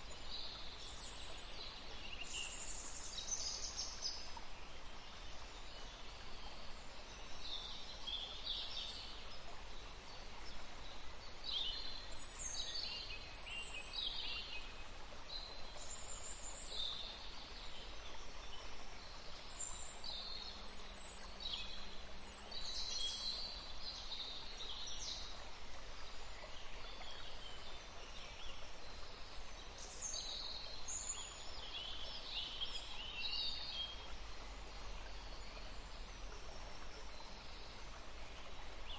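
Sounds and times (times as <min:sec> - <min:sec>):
running water: 0:00.0 - 0:38.9
songbirds singing: 0:00.0 - 0:38.9.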